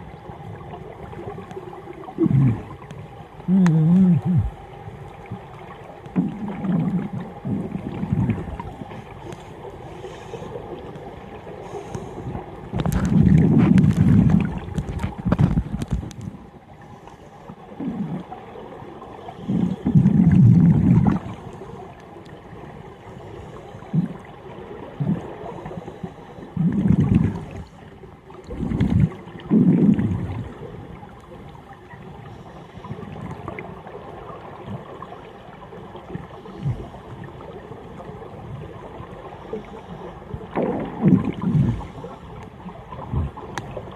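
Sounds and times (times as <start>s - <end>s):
underwater bubbling rumbles: 0.0s - 16.8s, 17.5s - 23.0s, 23.7s - 25.8s, 26.5s - 32.2s, 32.8s - 39.3s, 40.2s - 43.9s
faint steady hum: 0.0s - 43.9s.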